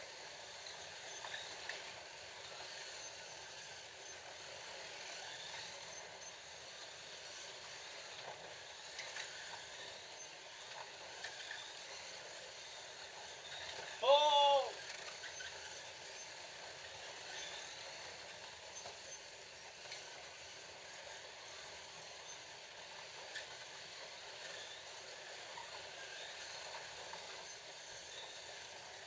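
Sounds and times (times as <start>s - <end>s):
slot cars whirring on track: 0.0s - 29.0s.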